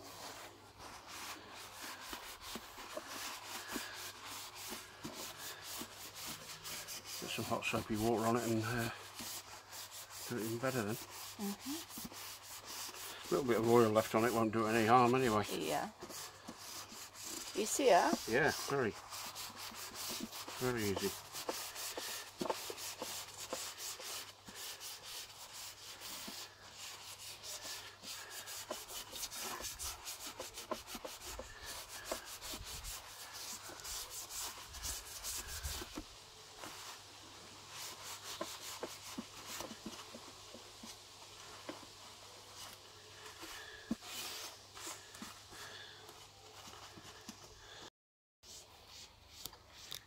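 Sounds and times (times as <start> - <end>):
paper towel wiping metal grill: 0.0 - 47.8.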